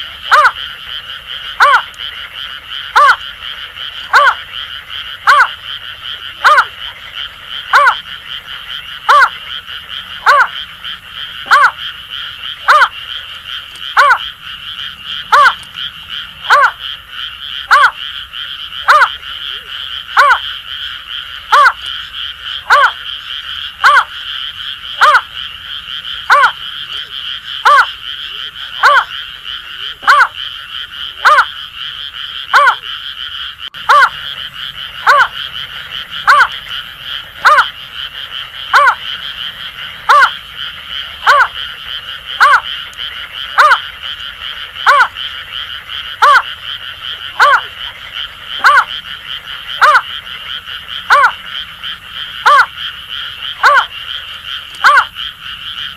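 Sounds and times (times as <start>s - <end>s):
frogs chorus: 0.0s - 55.9s.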